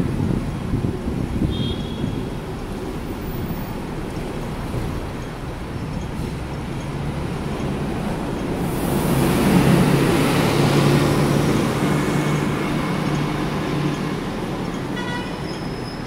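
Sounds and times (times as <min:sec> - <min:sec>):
tram rumbling on tracks: 0:00.0 - 0:16.0
wind: 0:00.0 - 0:16.0.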